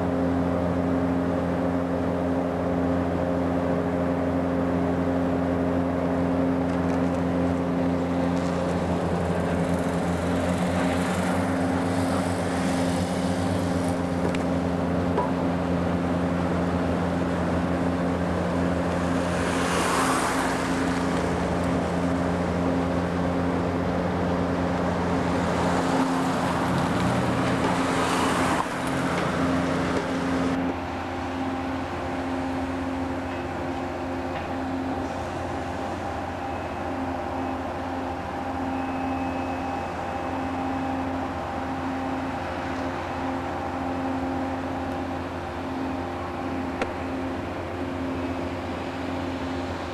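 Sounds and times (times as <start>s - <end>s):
construction machinery humming: 0.0s - 49.9s.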